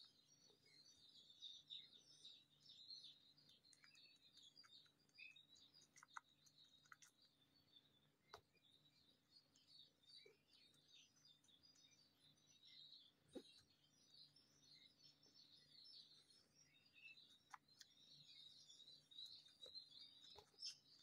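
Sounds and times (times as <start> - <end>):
faint high chirping: 0.0 - 21.0.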